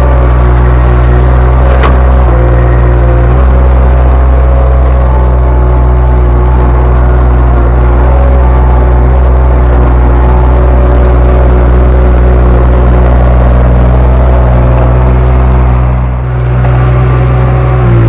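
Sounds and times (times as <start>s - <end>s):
skid steer engine running loudly: 0.0s - 18.0s.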